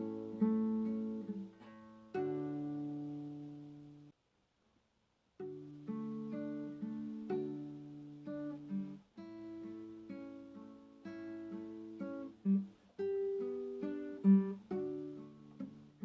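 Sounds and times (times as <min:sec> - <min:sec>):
acoustic guitar music: 0:00.0 - 0:04.1, 0:05.4 - 0:16.0.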